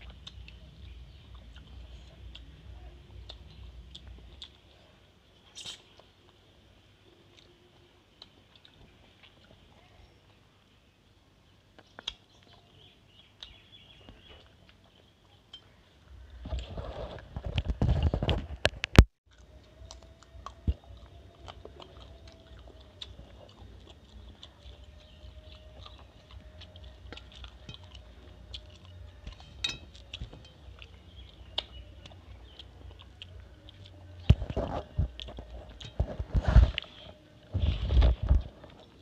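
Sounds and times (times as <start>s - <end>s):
chewing and wet mouth sounds: 0.0s - 10.7s, 11.6s - 39.0s.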